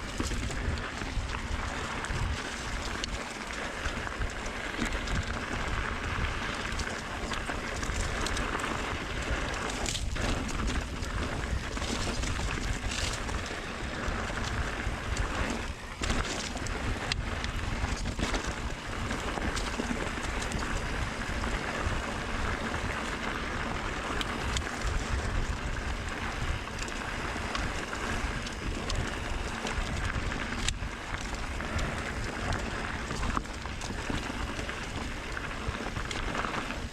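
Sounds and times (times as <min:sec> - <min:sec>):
bike rattling clicks and knocks: 0:00.0 - 0:36.9
tyres rolling over dirt: 0:00.0 - 0:36.9
wind buffeting microphone: 0:00.0 - 0:36.9.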